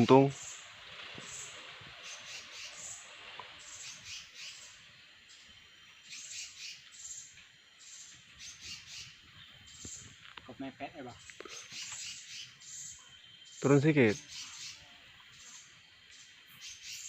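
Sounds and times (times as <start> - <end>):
faint forest background: 0.0 - 17.0
high thin bird chirps: 0.0 - 17.0.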